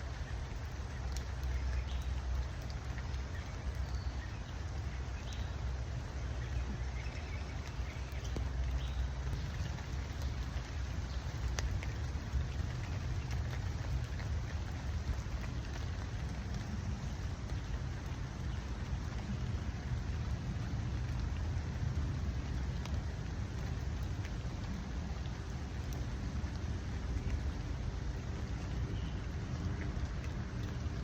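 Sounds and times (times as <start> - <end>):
continuous low rumble: 0.0 - 31.0
steady rain: 0.0 - 31.0.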